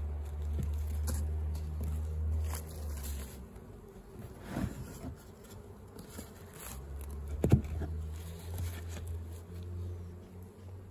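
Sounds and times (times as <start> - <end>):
bees buzzing: 0.9 - 10.9.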